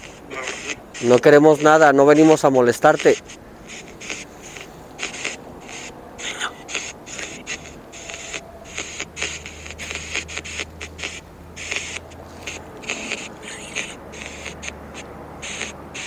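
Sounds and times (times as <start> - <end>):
choppy static bursts: 0.0 - 16.0
steady low hum: 0.0 - 16.0.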